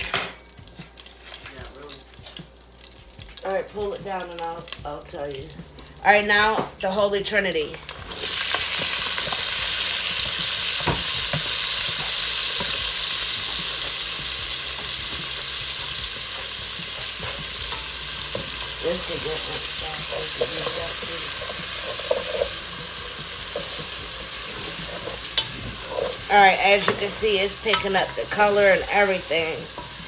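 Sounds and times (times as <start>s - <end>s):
vegetables sizzling in hot fat: 0.0s - 30.0s.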